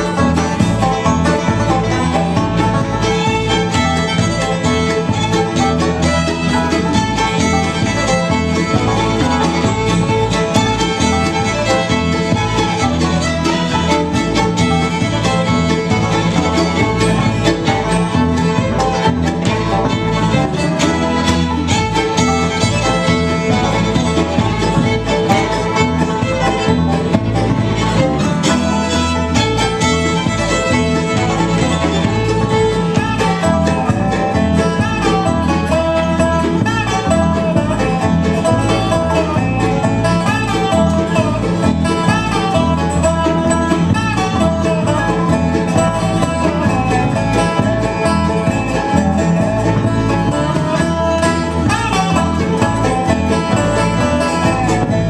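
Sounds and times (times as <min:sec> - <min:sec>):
acoustic guitar: 0:00.0 - 0:55.0
banjo: 0:00.0 - 0:55.0
dobro: 0:00.0 - 0:55.0
fiddle: 0:00.0 - 0:55.0
mandolin: 0:00.0 - 0:55.0
upright bass: 0:00.0 - 0:55.0.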